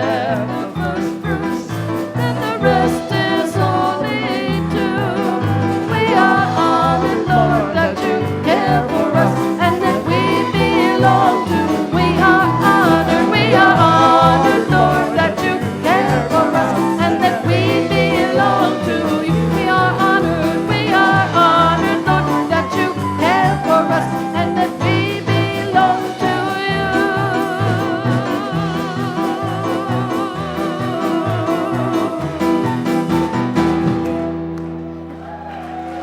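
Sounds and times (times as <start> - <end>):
instrumental worship music: 0.0 - 36.0.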